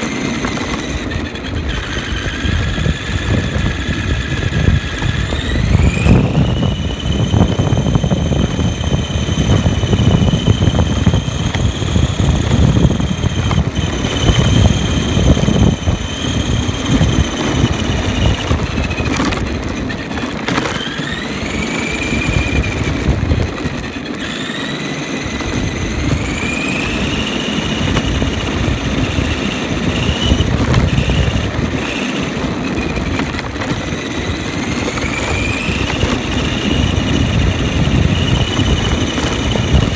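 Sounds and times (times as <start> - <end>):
electric motor whine: 0.0 - 39.9
tyres rumbling on asphalt: 0.0 - 39.9.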